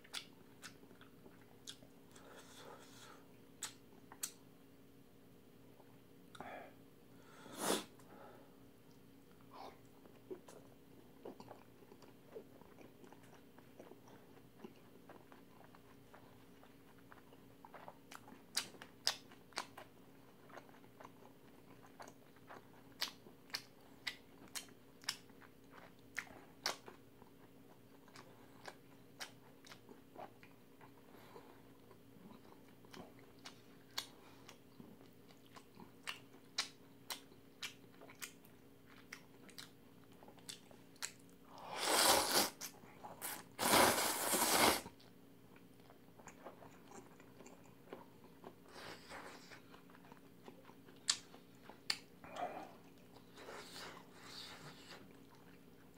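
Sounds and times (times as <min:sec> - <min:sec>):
faint steady hum: 0:00.0 - 0:55.9
crunchy chewing: 0:10.0 - 0:55.9.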